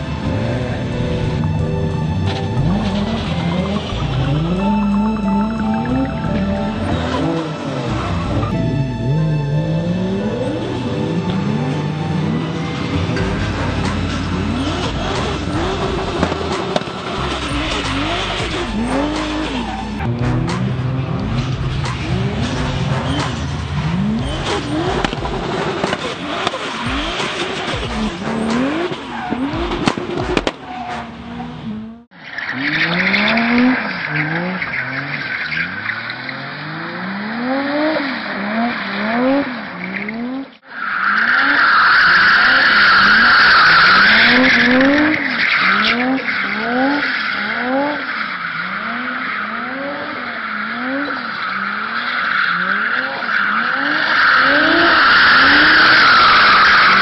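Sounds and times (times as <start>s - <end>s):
car engine revving hard: 0.0s - 5.2s, 5.9s - 40.5s, 41.4s - 57.0s.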